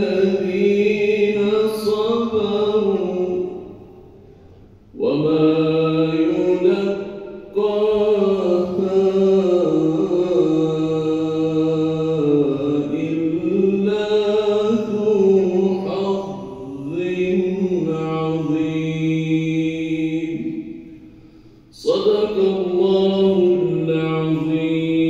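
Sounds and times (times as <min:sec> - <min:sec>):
man chanting through microphone: 0:00.0 - 0:04.2, 0:04.9 - 0:21.0, 0:21.7 - 0:25.0.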